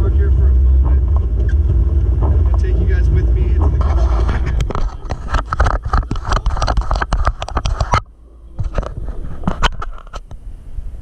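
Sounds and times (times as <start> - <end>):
car running: 0.0 - 11.0.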